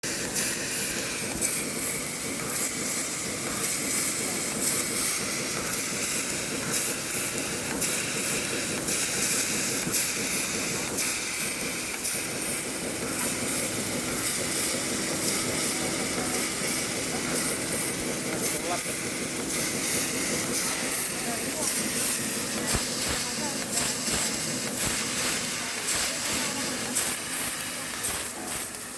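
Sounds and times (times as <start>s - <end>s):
laser cutter hissing: 0.0s - 28.9s.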